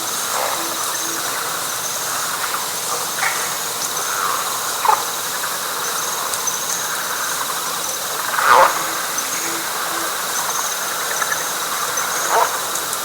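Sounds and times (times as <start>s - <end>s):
frogs and insects calling: 0.0s - 13.0s
loud frog calls: 0.0s - 13.0s.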